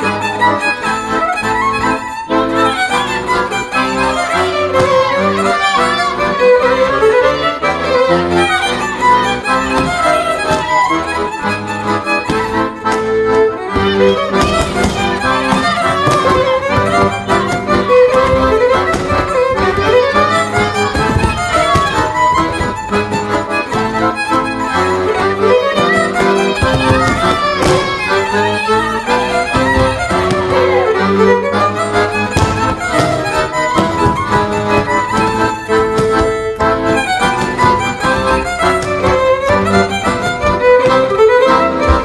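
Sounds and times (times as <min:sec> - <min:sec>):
folk dance music with fiddle: 0:00.0 - 0:42.0.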